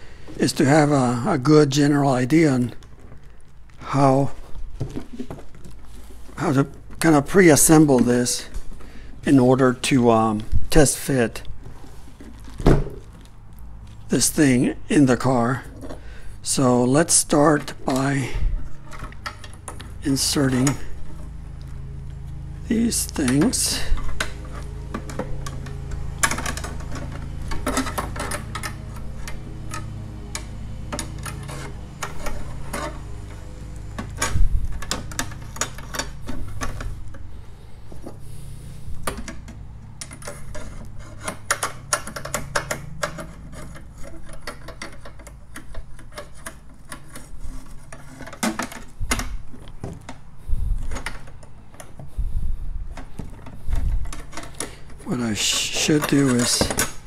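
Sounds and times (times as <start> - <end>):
metal parts clicking and scraping: 0.0 - 57.0
steady low hum: 0.0 - 57.0.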